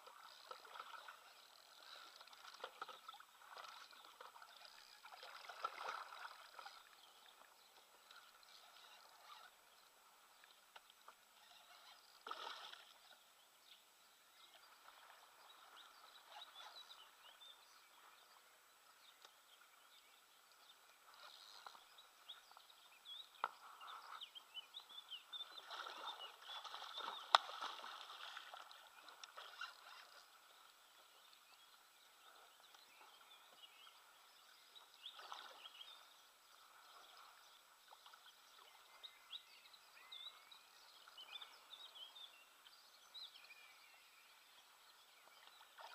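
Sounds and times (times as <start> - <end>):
faint birdsong: 0.0 - 45.9.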